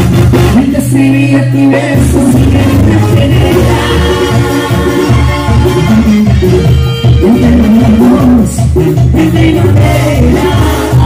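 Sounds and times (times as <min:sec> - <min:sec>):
brass band playing cumbia: 0:00.0 - 0:11.0
drums: 0:00.0 - 0:11.0
sousaphone bass line: 0:00.0 - 0:11.0
trombones: 0:00.0 - 0:11.0.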